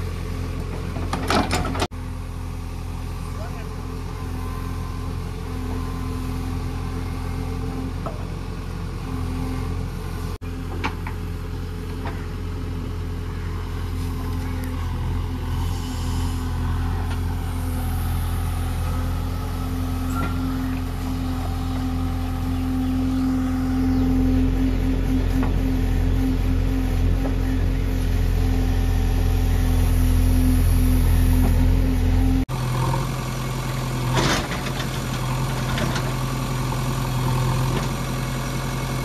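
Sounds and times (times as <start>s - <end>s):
diesel engine under hydraulic load: 0.0s - 39.0s.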